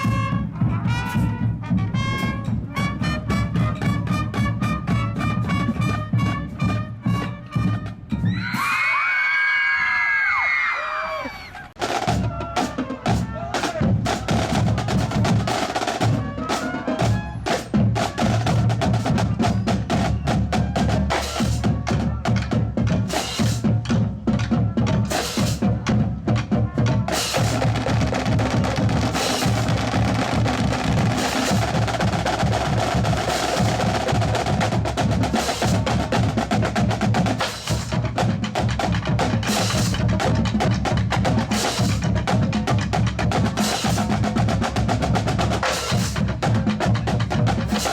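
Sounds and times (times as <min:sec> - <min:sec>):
snare and bass drum beat: 0:00.0 - 0:08.8, 0:11.8 - 0:47.9.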